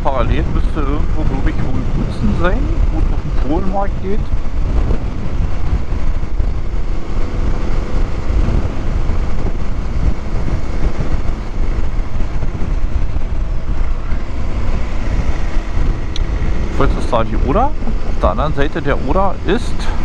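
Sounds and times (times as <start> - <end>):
motorcycle engine: 0.0 - 20.0
wind rumble on microphone: 0.0 - 20.0.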